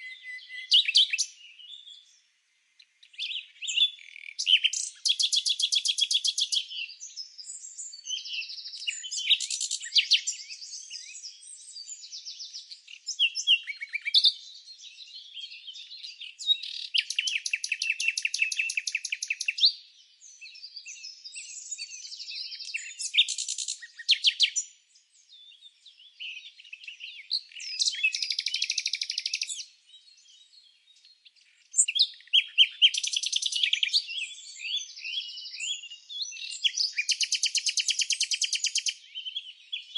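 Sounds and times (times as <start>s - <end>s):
bird chirping: 0.0s - 39.9s
songbirds singing: 0.0s - 39.9s.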